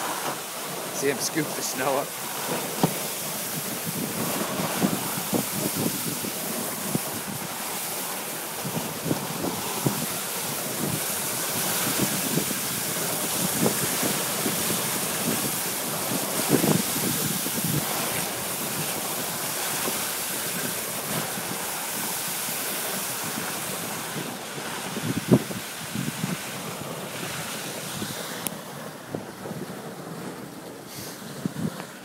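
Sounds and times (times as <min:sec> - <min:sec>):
sled runners hissing on snow: 0:00.0 - 0:32.0
wind on microphone: 0:00.0 - 0:32.0.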